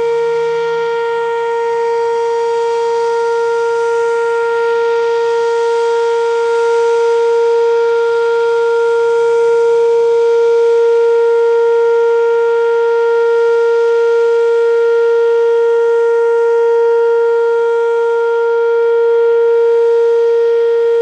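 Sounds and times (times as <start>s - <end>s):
tornado siren steady tone: 0.0s - 21.0s.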